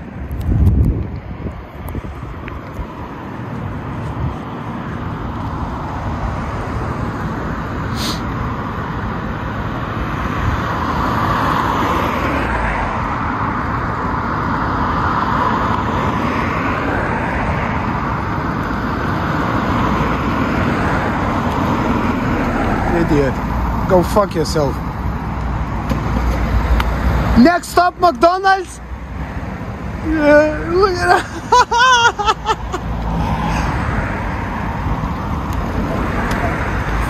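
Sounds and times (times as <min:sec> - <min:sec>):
car engine and tyres: 0:00.0 - 0:37.0
road traffic: 0:00.0 - 0:37.0.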